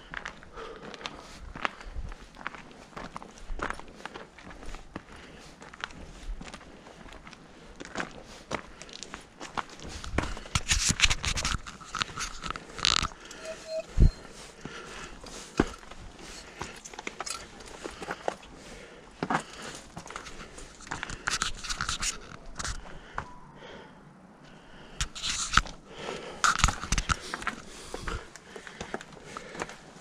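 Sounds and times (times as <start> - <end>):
footsteps on gravel and rock: 0.0 - 13.2, 14.5 - 23.0, 25.0 - 30.0.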